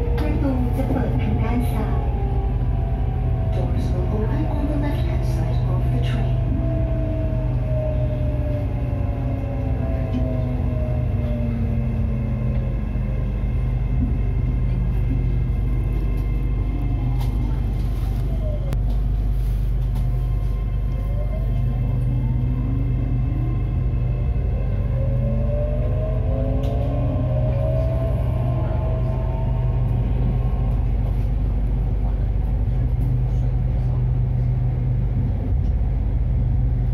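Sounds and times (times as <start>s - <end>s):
train rumble: 0.0s - 36.9s.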